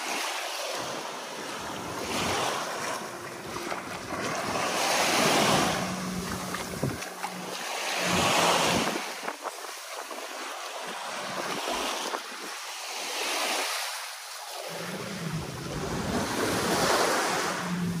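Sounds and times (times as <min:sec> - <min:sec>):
sea waves on rocky beach: 0:00.0 - 0:18.0
wind rumbling on microphone: 0:00.8 - 0:12.6, 0:14.5 - 0:18.0.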